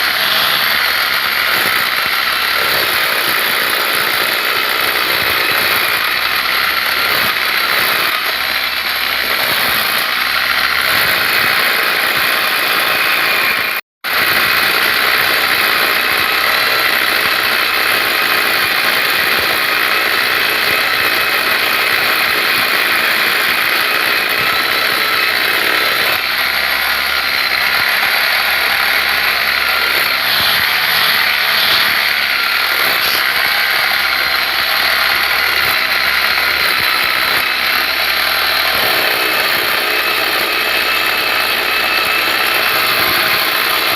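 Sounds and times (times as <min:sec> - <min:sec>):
machine running loudly: 0:00.0 - 0:43.9.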